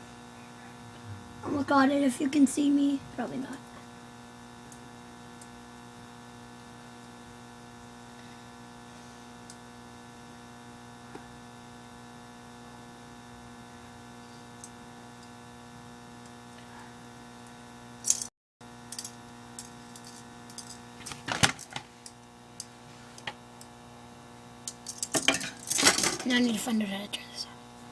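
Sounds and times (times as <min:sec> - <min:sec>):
electrical hum: 0:00.0 - 0:27.9.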